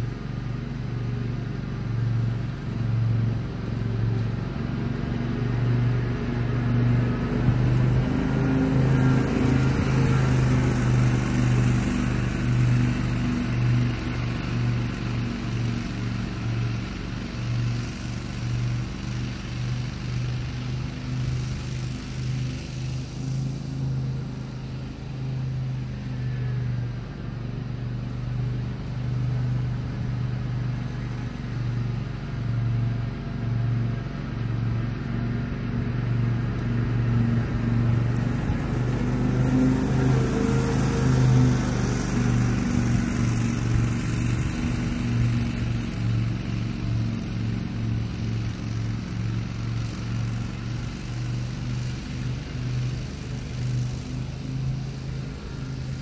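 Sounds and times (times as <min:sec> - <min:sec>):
riding mower running: 0:00.0 - 0:56.0.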